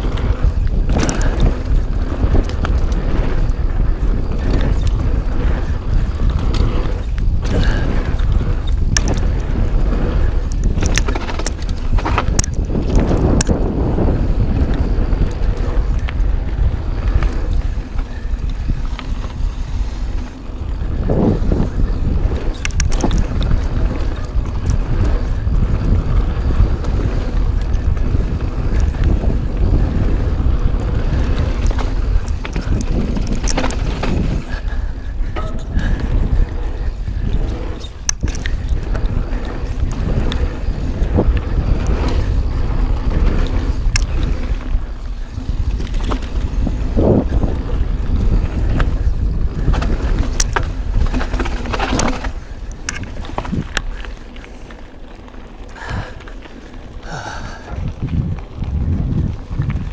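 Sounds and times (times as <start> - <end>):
bike clicks and rattles: 0.0 - 59.9
bike tyre rumble: 0.0 - 59.9
wind noise: 0.0 - 59.9.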